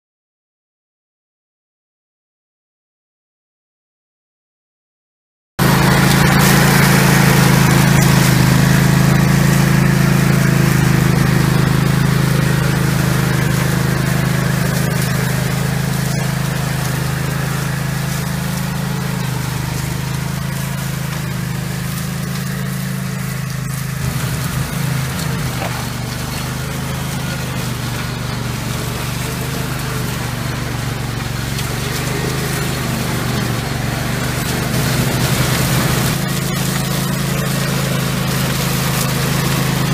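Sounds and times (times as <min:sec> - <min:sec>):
ride-on mower running: 0:05.6 - 0:39.9.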